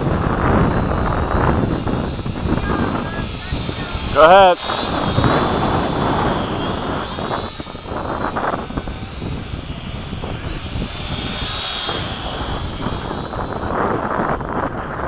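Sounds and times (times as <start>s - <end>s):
model plane motors whining: 0.0s - 15.0s
wind rumbling on microphone: 0.0s - 15.0s.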